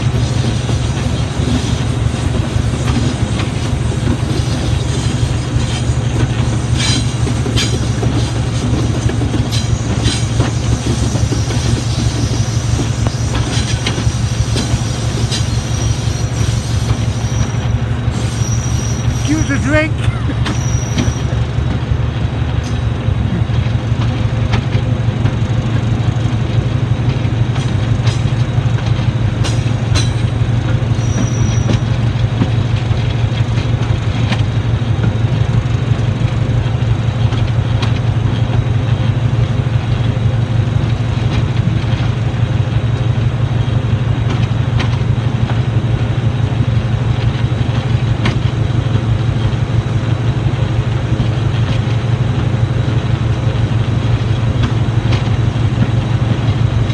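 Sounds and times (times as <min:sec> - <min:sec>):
train engine and wheels drone: 0:00.0 - 0:56.9.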